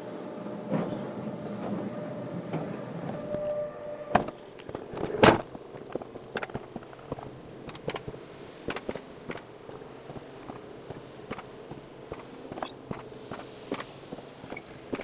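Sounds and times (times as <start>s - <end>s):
coaster sled whine: 0.0s - 15.0s.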